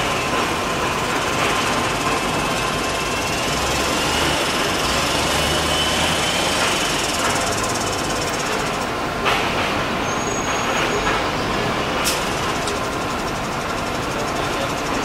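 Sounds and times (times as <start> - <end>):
hissing industrial din: 0.0 - 15.0
steam escaping from locomotive: 0.0 - 15.0.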